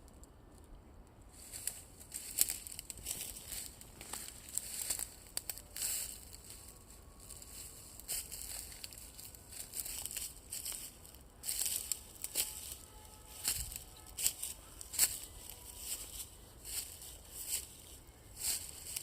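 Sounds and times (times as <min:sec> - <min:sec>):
crackling and rustling: 0:00.0 - 0:19.0.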